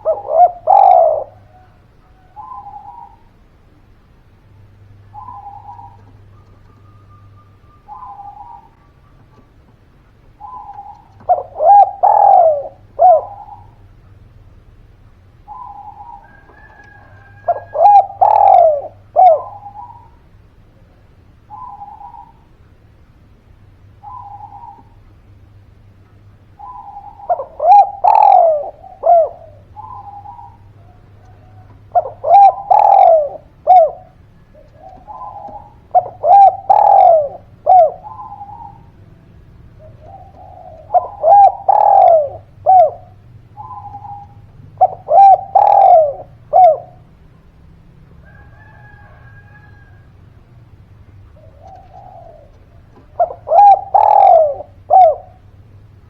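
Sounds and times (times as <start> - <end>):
dove cooing: 0.0 - 14.3, 15.4 - 22.7, 23.8 - 25.4, 26.4 - 56.0.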